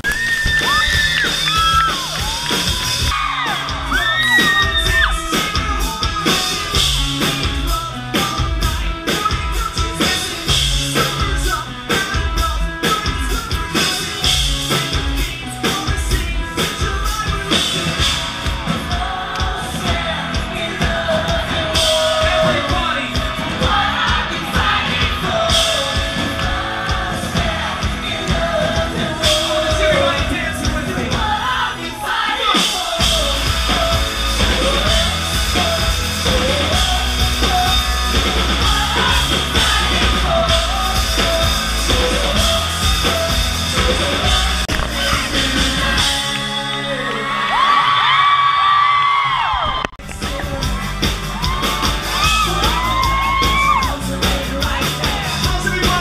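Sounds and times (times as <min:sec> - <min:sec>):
heavy bass: 0:00.0 - 0:47.6, 0:49.4 - 0:56.0
drums: 0:00.0 - 0:56.0
man singing lead vocal: 0:03.1 - 0:48.2, 0:50.0 - 0:56.0.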